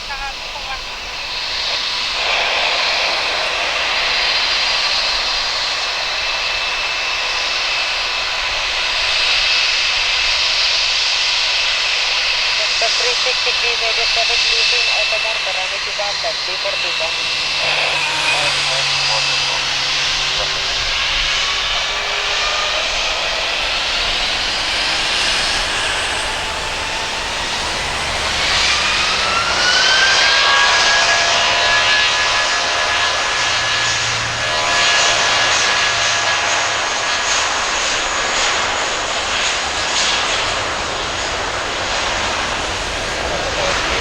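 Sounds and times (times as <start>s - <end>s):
jet engines spooling up: 0.0s - 44.0s.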